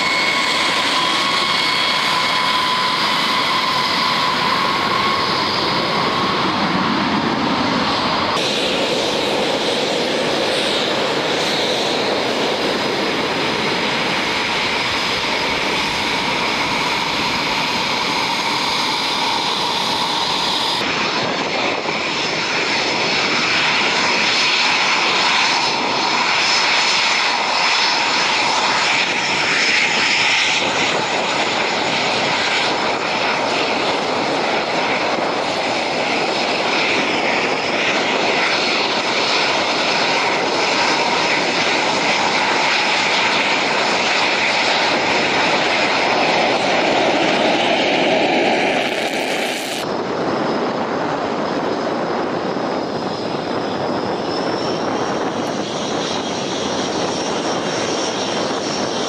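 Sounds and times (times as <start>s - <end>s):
jet engines idling: 0.0s - 59.0s
loud jet engine whine: 0.0s - 59.0s.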